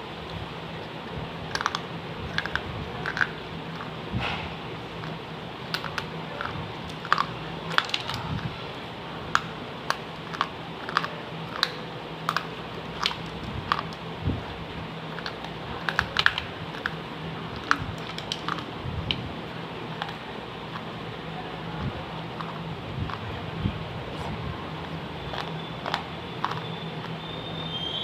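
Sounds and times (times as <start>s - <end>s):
clay pieces being chewed: 0.2s - 8.5s, 9.2s - 27.8s.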